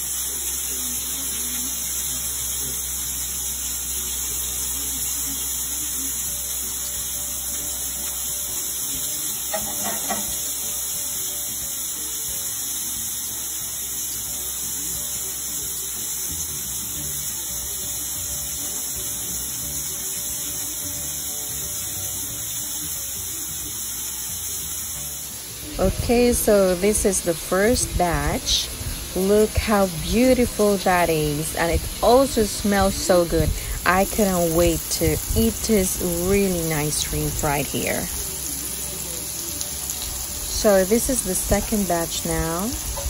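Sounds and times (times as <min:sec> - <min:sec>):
background music: 0:00.0 - 0:43.0
shrimp sizzling in pan: 0:00.0 - 0:43.0.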